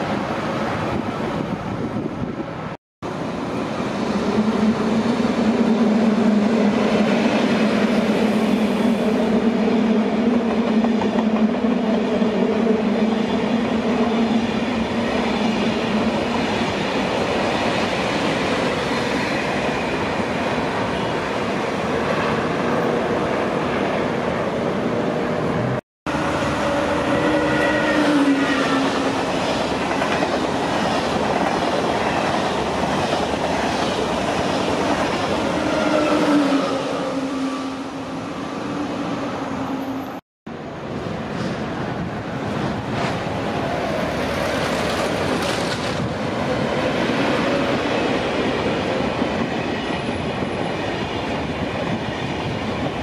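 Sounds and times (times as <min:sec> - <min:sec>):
high-speed train passing: 0:00.0 - 0:53.0.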